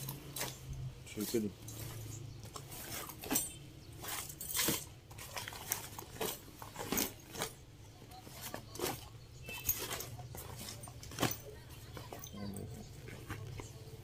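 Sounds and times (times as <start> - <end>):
light clinks of buckles: 0.0 - 7.7, 8.8 - 13.9.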